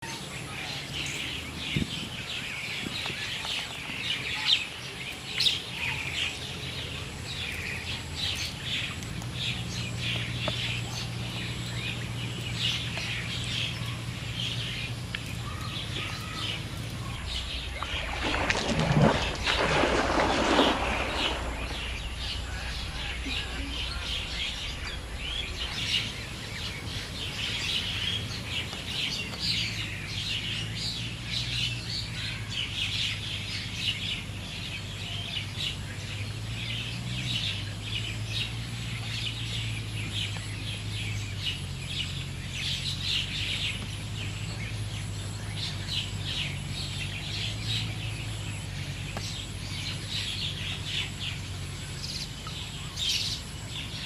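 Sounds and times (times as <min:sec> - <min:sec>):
small birds chirping: 0:00.0 - 0:54.0
steady low hum: 0:05.7 - 0:54.0.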